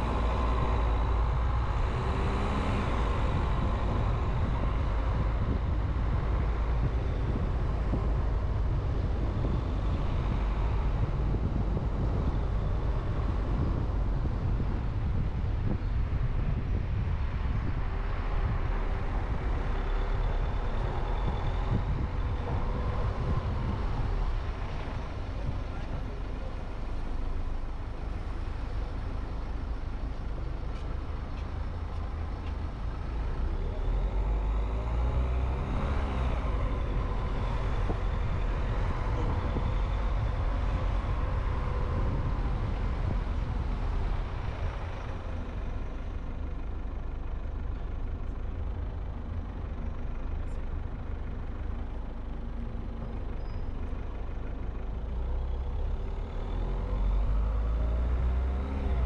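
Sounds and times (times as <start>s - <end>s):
vehicle engine and tyre rumble: 0.0s - 59.0s.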